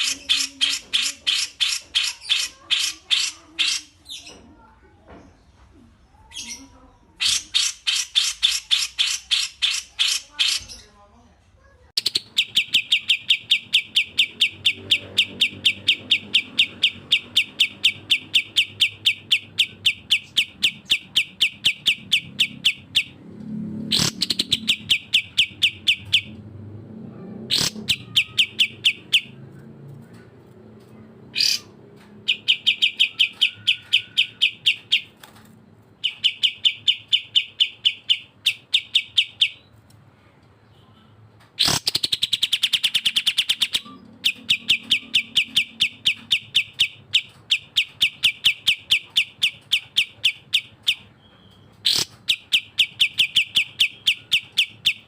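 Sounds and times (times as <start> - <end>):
songbirds singing sharp repeated notes: 0.0 - 11.1, 12.0 - 55.0.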